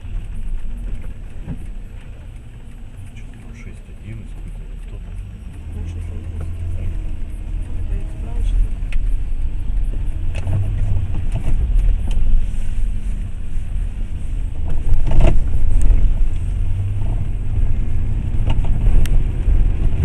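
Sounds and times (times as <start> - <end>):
road and engine noise inside car: 0.0 - 20.0.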